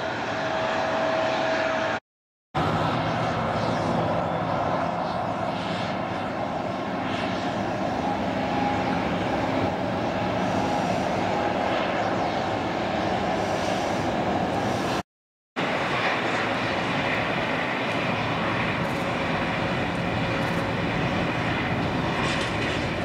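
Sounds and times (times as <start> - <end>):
faint jet whine: 0.0 - 2.0, 2.6 - 15.0, 15.6 - 23.0
jet engines running: 0.0 - 2.0, 2.6 - 15.0, 15.6 - 23.0.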